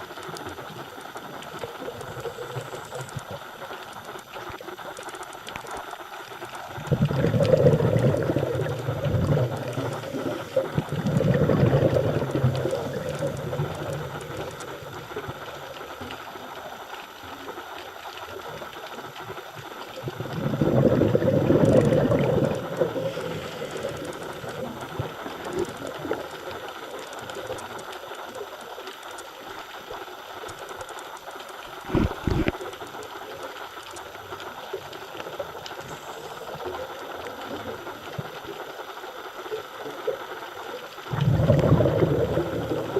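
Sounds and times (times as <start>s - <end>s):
faint steady hiss: 0.0s - 42.9s
underwater bubbles gushing: 0.0s - 42.9s.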